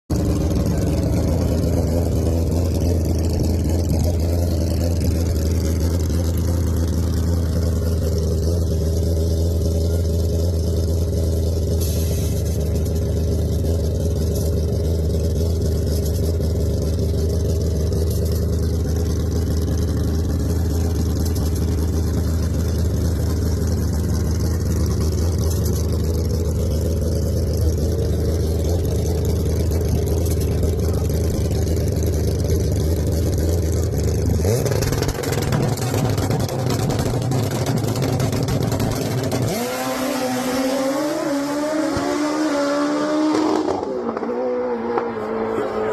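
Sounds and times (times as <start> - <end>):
motorcycle engine idling: 0.1 - 39.7.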